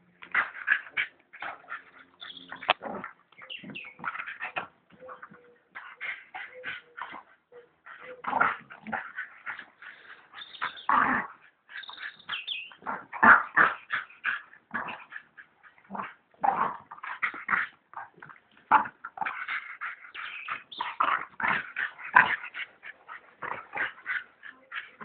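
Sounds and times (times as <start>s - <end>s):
dogs fighting: 0.2s - 25.0s.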